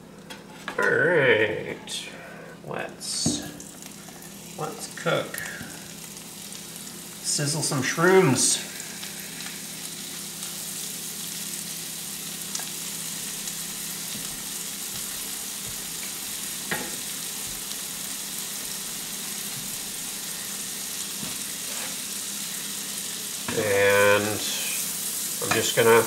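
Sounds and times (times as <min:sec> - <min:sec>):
mushrooms sizzling in butter: 0:03.0 - 0:26.0.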